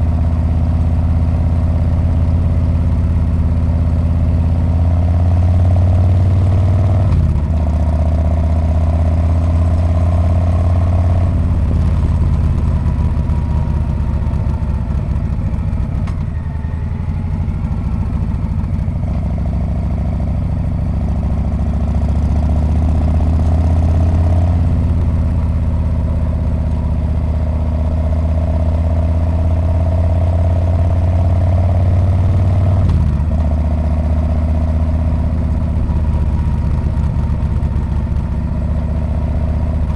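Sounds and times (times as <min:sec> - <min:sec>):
motorcycle engine exhaust note: 0:00.1 - 0:39.9.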